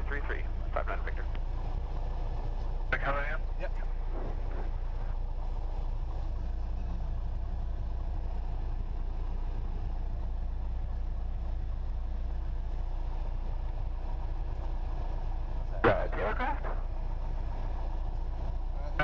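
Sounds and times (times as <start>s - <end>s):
aircraft engine idling: 0.0s - 19.0s.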